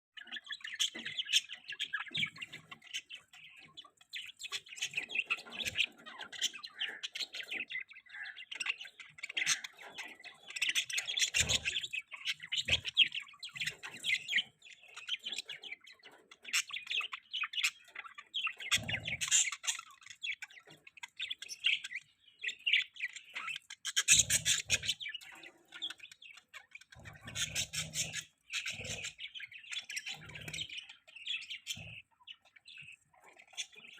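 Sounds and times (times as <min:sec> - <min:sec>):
budgerigars chirping and chattering: 0:00.2 - 0:33.9.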